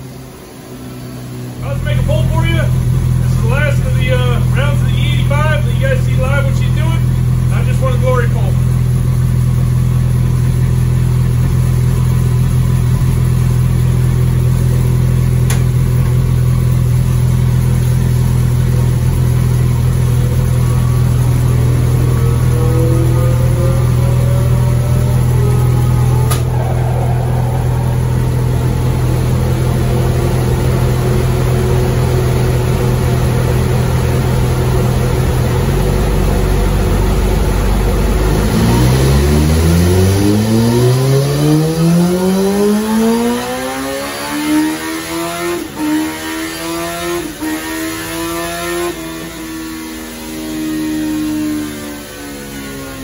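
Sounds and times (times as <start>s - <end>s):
motorcycle engine on dyno: 0.0s - 53.0s.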